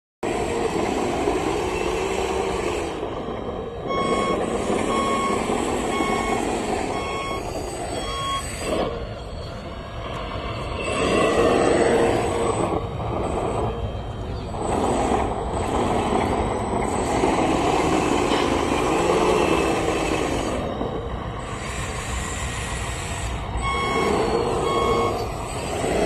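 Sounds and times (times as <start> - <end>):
engine rumble: 0.2 - 26.0
truck reversing alarm beeping: 0.2 - 26.0.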